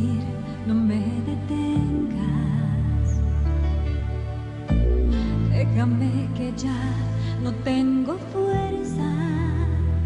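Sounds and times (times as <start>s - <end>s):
slow ballad accompaniment: 0.0s - 10.0s.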